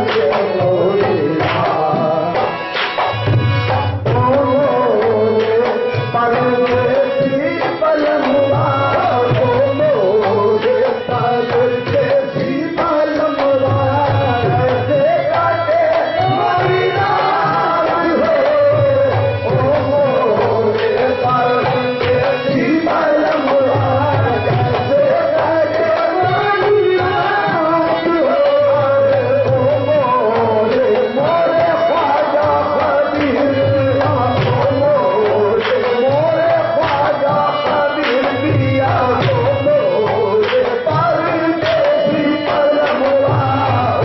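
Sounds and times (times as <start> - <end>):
tabla drumming: 0.0 - 44.0.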